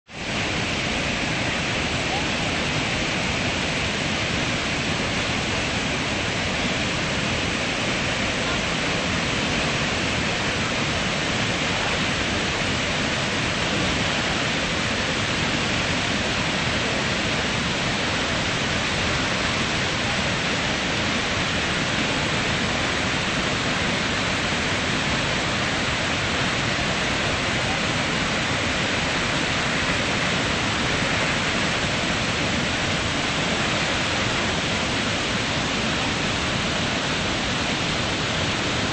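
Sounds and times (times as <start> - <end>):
waterfall rushing: 0.1 - 38.9.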